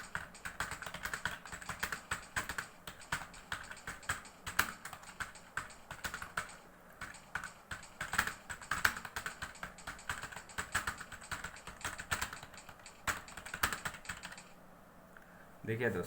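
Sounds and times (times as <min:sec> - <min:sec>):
fast typing on keyboard: 0:00.0 - 0:14.6.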